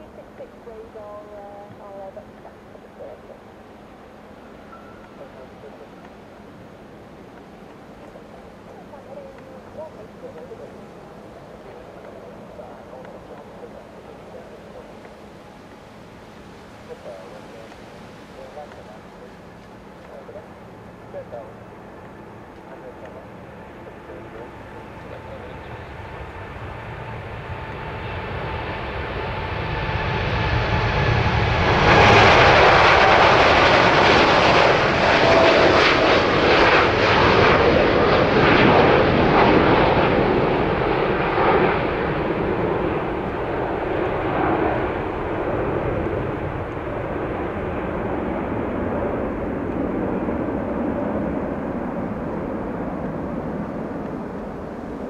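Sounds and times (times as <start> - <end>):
jet airliner taking off: 0.0 - 55.0.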